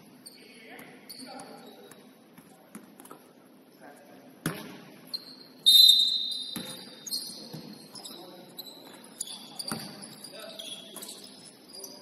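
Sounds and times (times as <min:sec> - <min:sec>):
sneakers squeaking on boards: 0:00.1 - 0:03.3, 0:04.4 - 0:12.0.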